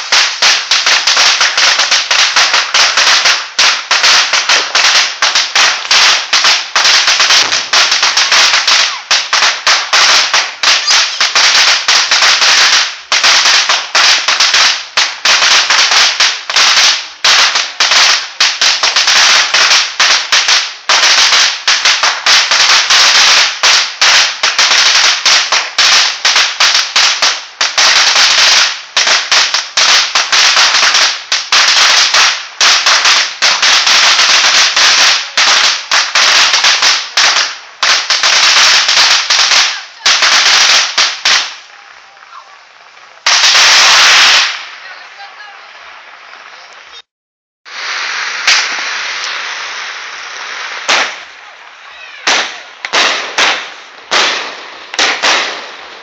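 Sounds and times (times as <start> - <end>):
firecrackers cracking and popping: 0.0 - 47.1, 47.7 - 56.0.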